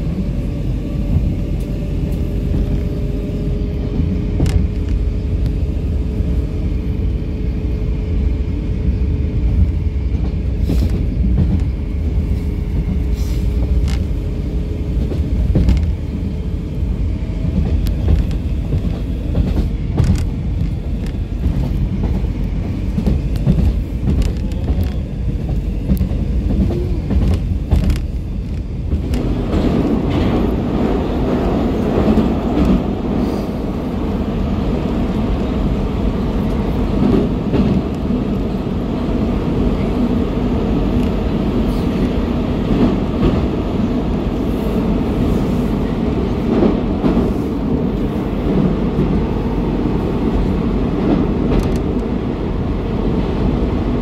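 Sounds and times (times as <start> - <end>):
metro train wheels rumbling: 0.0 - 54.0.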